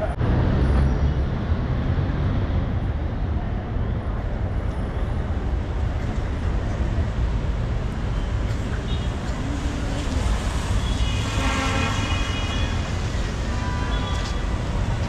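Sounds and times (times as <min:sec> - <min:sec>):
traffic low rumble: 0:00.0 - 0:15.0.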